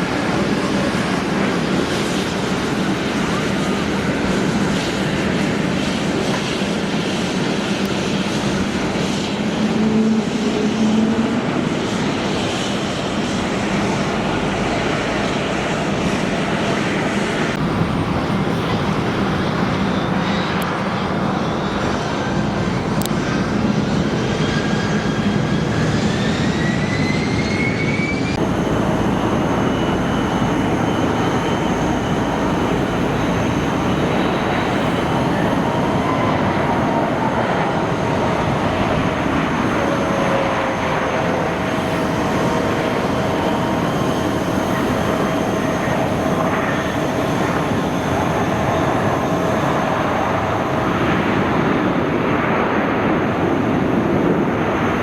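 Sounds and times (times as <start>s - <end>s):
turbine whine rising: 0.0s - 52.4s
jet engines roaring: 0.0s - 55.0s.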